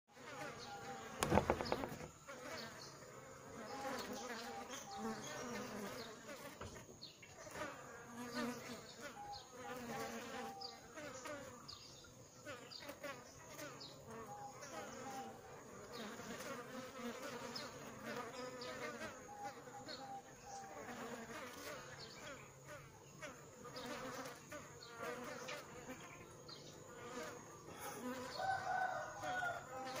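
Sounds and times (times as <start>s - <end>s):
bee flying past: 0.1s - 30.0s
bees buzzing: 0.1s - 30.0s.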